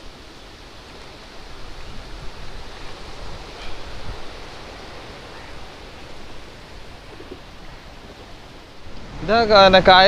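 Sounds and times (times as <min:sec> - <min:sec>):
open-air hiss: 0:00.0 - 0:10.0
wind buffeting on microphone: 0:00.0 - 0:10.0.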